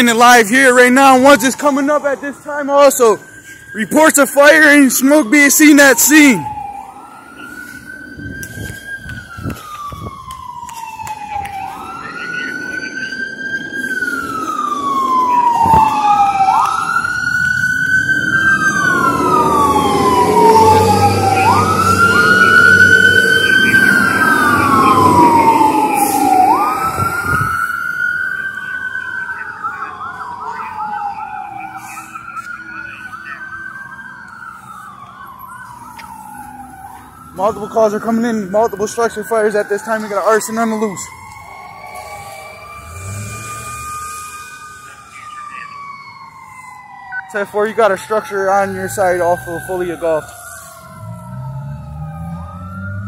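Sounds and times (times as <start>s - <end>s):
fire engine rumble: 0.0s - 53.0s
fire engine sirens wailing: 0.0s - 53.0s.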